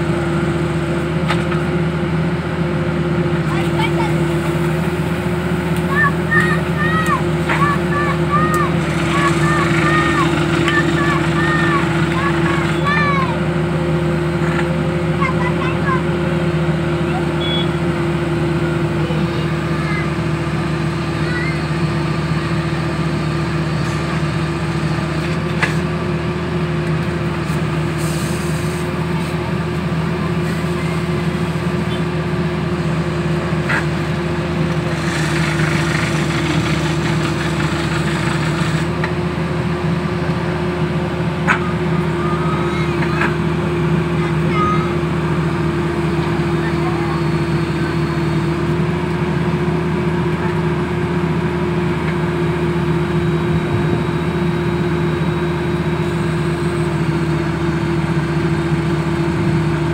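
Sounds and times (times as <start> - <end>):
drilling rig engine running: 0.0 - 59.9.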